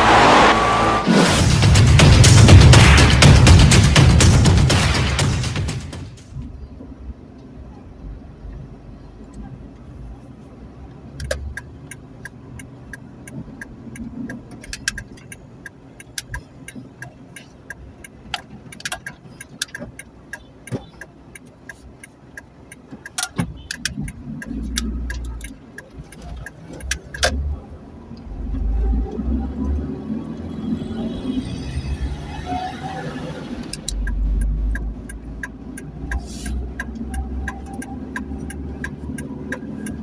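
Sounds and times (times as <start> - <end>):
vehicle low rumble: 6.1 - 40.0.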